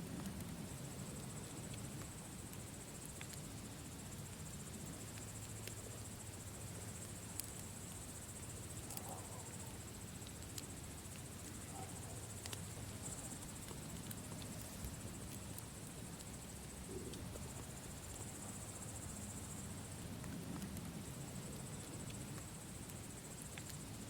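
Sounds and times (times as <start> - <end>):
campfire crackling: 0.0 - 24.0
crickets chirring: 0.0 - 24.0.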